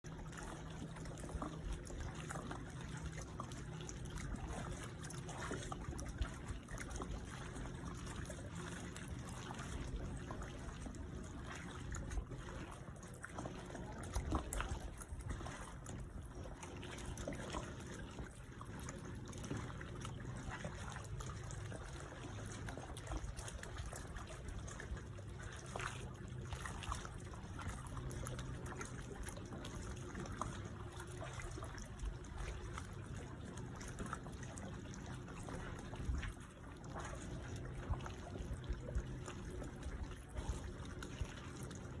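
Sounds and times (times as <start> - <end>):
waves lapping against a dock: 0.0 - 42.0.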